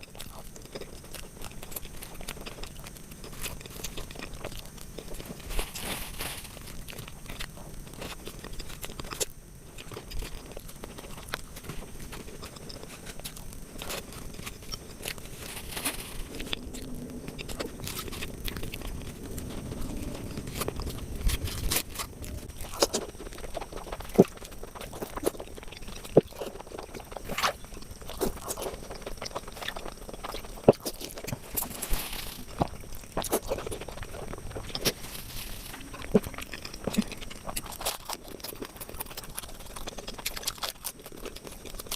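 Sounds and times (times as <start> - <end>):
person chewing crunchy sweets: 0.0 - 41.9.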